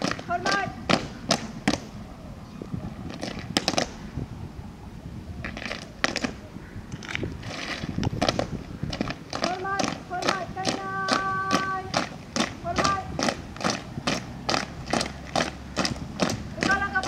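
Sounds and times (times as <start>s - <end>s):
boots stamping on asphalt: 0.0s - 2.0s, 3.0s - 4.1s, 5.4s - 17.0s.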